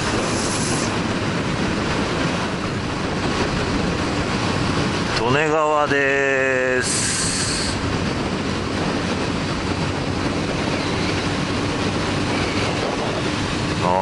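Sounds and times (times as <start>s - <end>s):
motorcycle engine hum: 0.0s - 14.0s
road noise: 0.0s - 14.0s
wind rush: 0.0s - 14.0s.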